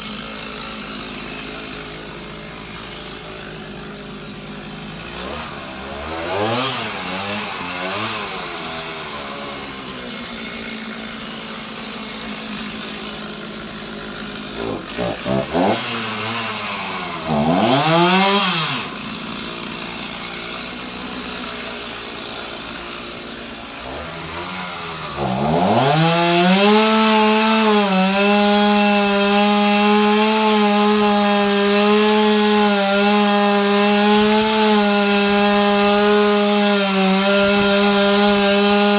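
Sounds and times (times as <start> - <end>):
chainsaw cutting wood: 0.0 - 38.9
chainsaw revving: 0.0 - 38.9.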